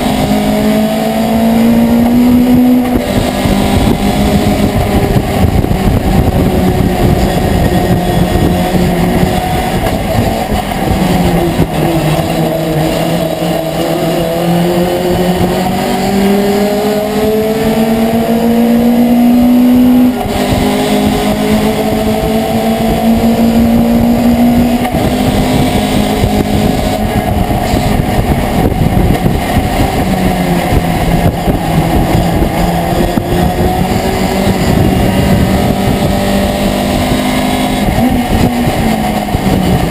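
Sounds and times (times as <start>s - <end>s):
truck engine accelerating: 0.0s - 39.9s.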